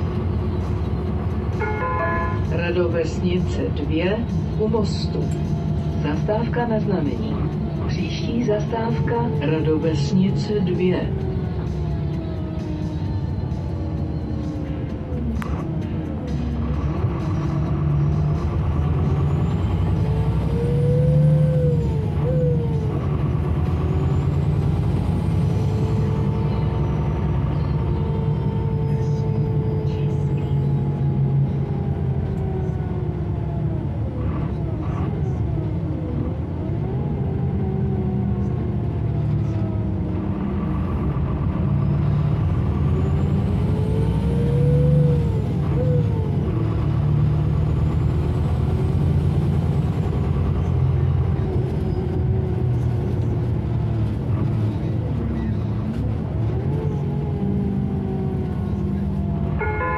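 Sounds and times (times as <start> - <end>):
bus engine and drivetrain: 0.0 - 59.9.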